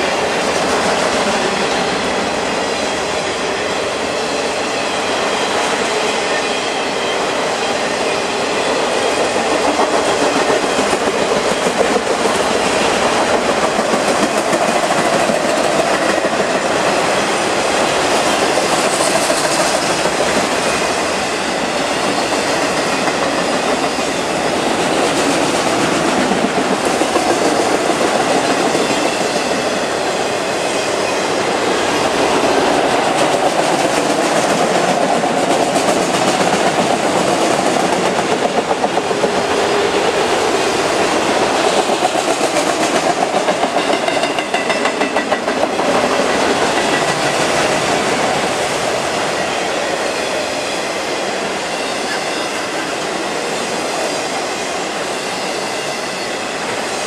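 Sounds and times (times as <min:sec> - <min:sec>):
steel train wheels on rail: 0:00.0 - 0:57.0.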